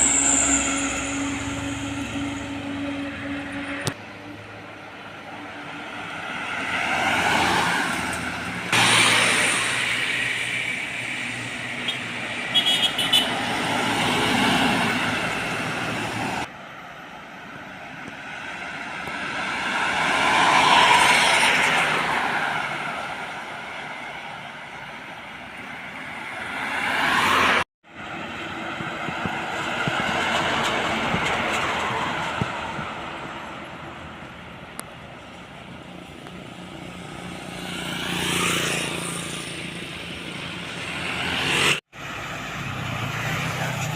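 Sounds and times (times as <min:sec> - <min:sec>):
trucks passing: 0:00.0 - 0:43.9.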